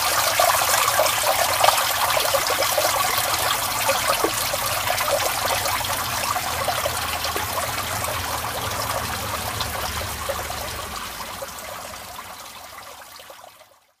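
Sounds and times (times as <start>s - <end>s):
water trickling into storm drain: 0.0s - 14.0s.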